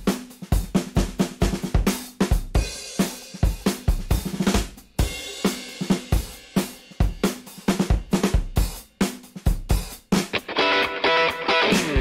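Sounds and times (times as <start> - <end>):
drum-heavy background music: 0.0 - 12.0.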